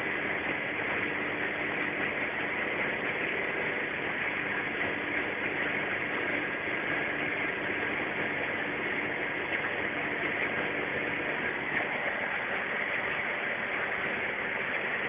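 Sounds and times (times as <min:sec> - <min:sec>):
aircraft engine and propeller droning: 0:00.0 - 0:15.0
rush of airflow: 0:00.0 - 0:15.0.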